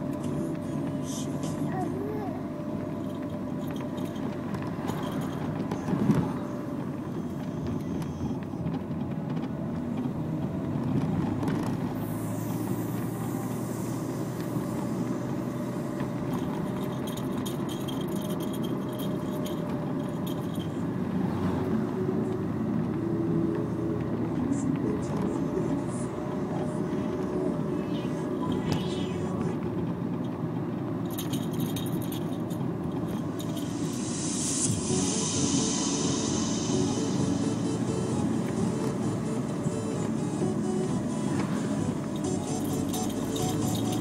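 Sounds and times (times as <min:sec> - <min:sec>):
engine and tyre rumble: 0:00.0 - 0:44.0.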